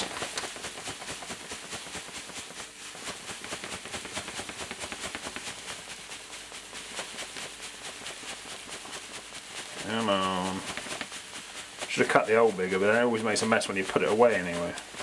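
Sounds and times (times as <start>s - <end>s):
grain pouring into a bowl: 0.0s - 15.0s.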